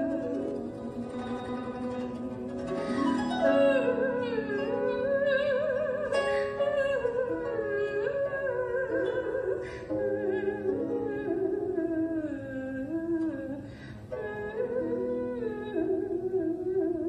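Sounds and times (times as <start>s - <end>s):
slow melody of sliding notes: 0.0s - 17.0s.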